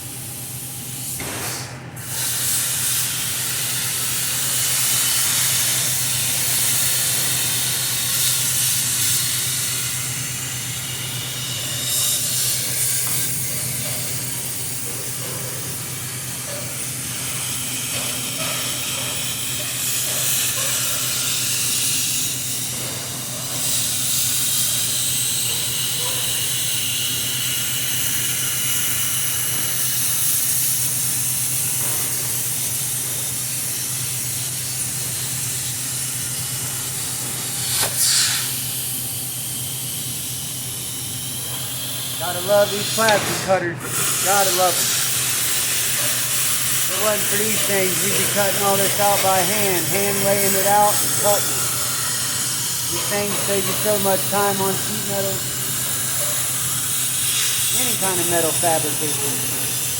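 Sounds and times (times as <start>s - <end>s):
plasma cutter hissing: 0.4s - 59.9s.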